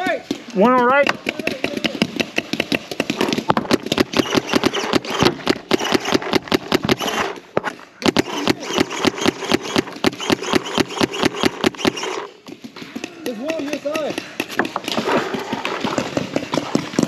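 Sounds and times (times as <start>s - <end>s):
paintball marker rapid firing: 0.3s - 17.0s.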